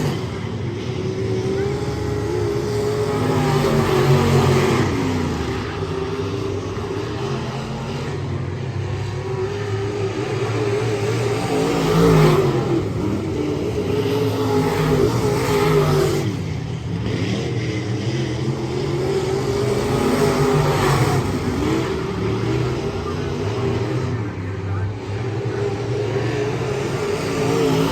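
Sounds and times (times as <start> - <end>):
race car engines revving: 0.0 - 27.9.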